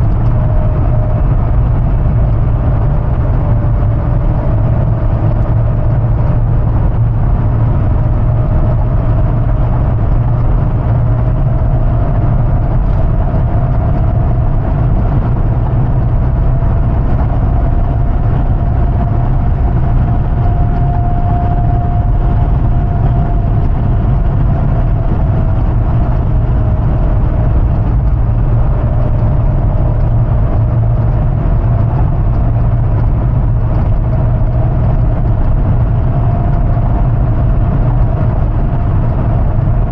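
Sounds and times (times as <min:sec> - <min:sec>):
engine rumbling: 0:00.0 - 0:39.9
road noise: 0:00.0 - 0:39.9
steady whine: 0:00.0 - 0:39.9.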